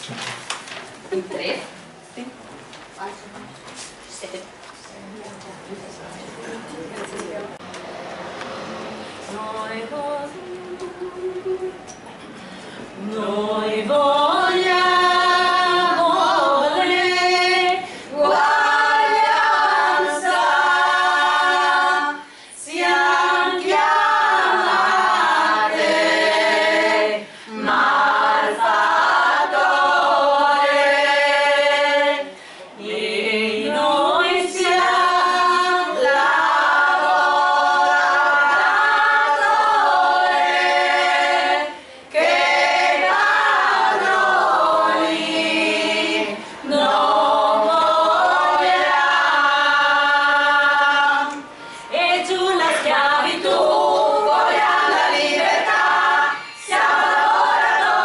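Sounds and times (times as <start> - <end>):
women's choir singing a cappella: 8.8 - 58.0.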